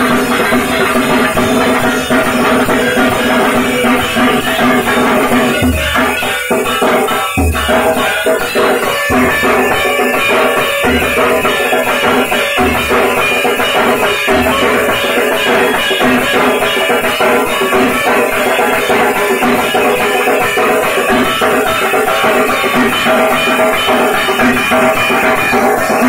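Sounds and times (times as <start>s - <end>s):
barrel drums beaten with sticks: 0.0s - 26.0s
hand-held gong clanging: 0.0s - 26.0s.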